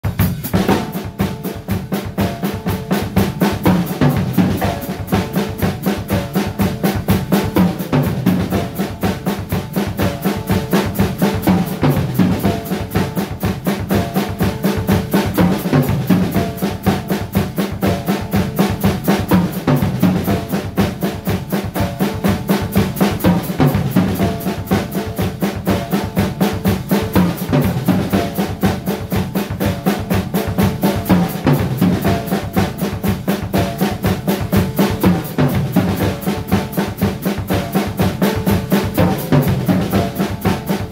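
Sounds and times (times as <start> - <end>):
drum kit playing fast pattern: 0.0 - 40.9.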